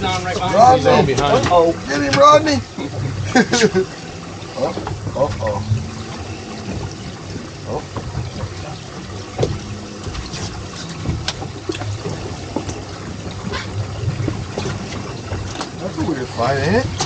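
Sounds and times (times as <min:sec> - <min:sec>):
water sloshing against hull: 0:00.0 - 0:17.0.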